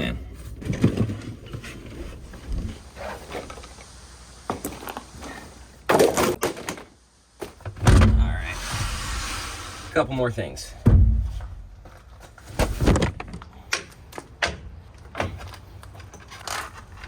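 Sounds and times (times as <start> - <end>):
objects being moved and handled: 0.0 - 17.0.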